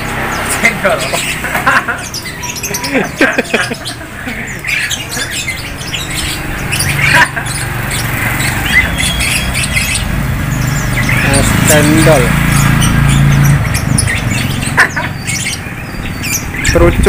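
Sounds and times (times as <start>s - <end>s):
caged birds chirping and squawking: 0.0s - 17.0s.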